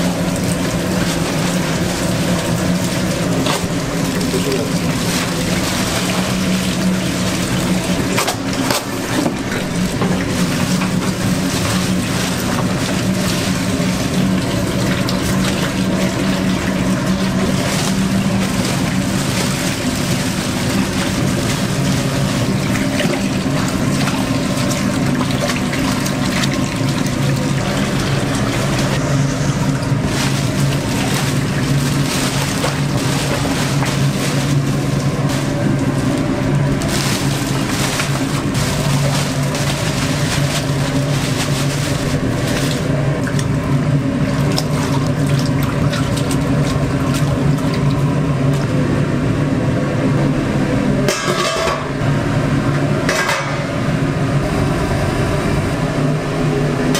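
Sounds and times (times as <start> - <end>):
constant mechanical hum: 0.0 - 56.9
running or bubbling water: 0.0 - 56.9.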